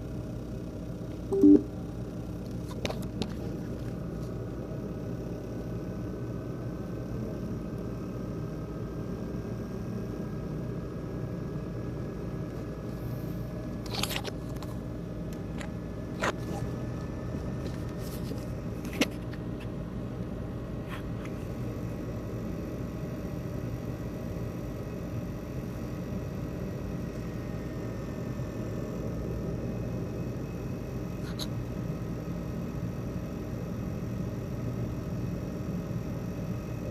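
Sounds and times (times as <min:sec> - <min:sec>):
laptop fan buzzing and rattling: 0:00.0 - 0:36.9.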